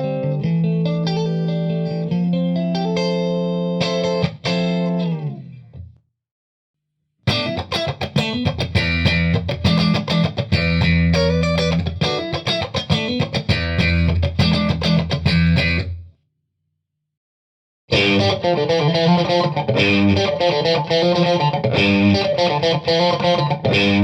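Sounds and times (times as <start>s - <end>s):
electric guitar: 0.0s - 5.8s, 7.3s - 16.0s, 17.9s - 24.0s.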